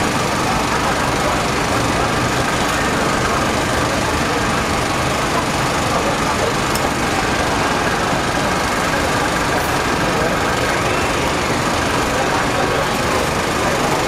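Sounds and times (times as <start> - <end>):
faint voices: 0.0 - 14.0
machinery hum and rush: 0.0 - 14.0.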